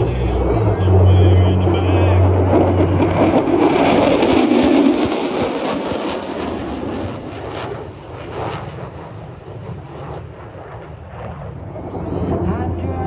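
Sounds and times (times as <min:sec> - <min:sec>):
airplane flying past: 0:00.0 - 0:13.0.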